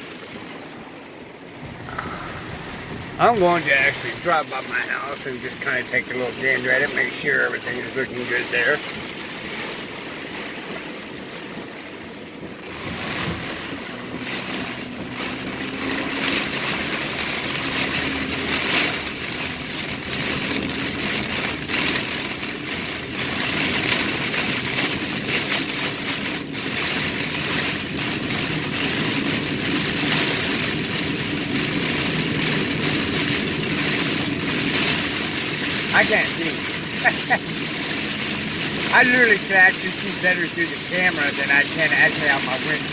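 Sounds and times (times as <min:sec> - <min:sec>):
heavy rain on car roof: 0:00.0 - 0:42.9.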